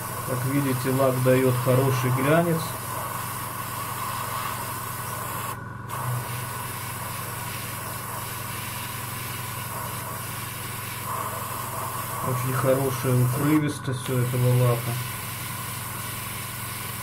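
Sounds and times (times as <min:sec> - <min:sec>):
airbrush hissing: 0:00.0 - 0:17.0.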